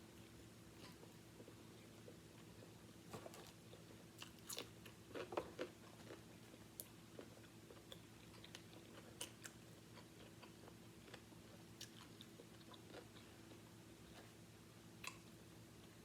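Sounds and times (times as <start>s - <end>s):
low steady hum: 0.0s - 16.0s
faint chewing: 0.8s - 14.4s.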